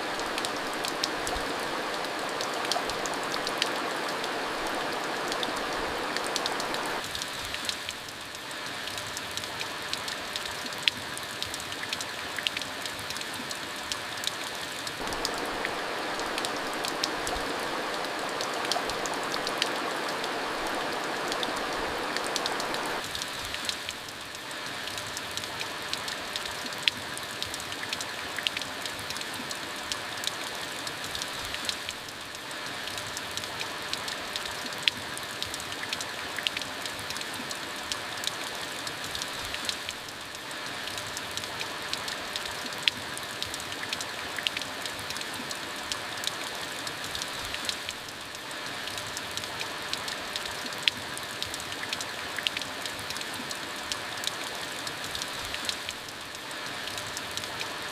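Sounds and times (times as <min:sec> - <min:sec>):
raindrops ticking close by: 0:00.0 - 0:57.9
steady rain falling: 0:00.0 - 0:57.9.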